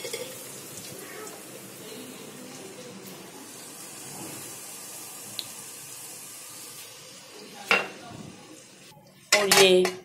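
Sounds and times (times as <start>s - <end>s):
onions frying in oil: 0.0s - 8.9s.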